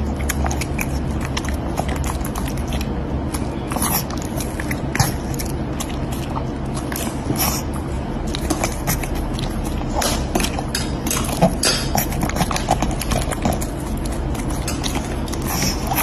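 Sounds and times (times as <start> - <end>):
dog crunching food: 0.0 - 16.0
low background hum: 0.0 - 16.0.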